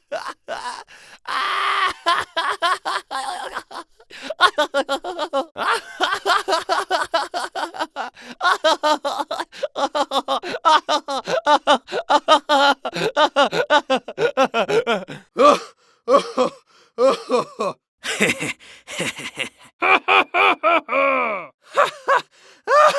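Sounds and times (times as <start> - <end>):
person laughing: 1.9 - 15.3, 16.4 - 22.9.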